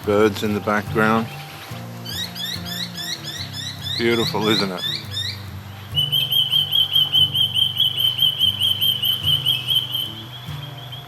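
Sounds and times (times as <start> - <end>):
bird whistling short high notes: 0.6 - 11.0.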